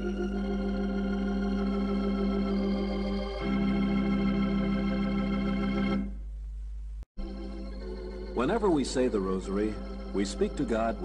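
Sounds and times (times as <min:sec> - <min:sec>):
organ playing sustained chords: 0:00.0 - 0:06.2, 0:07.2 - 0:11.0.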